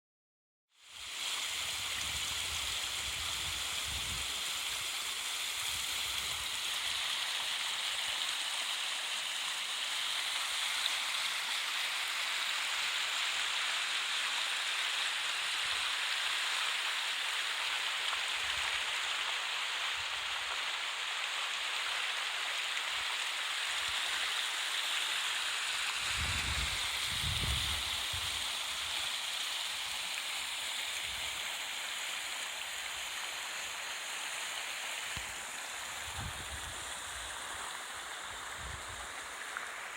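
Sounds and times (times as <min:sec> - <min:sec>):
river water rushing: 0:00.9 - 0:39.9.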